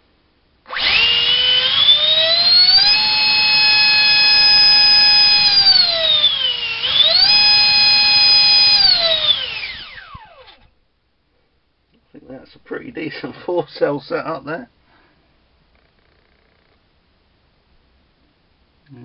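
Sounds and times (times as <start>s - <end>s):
electric fan high whine: 0.0s - 19.0s.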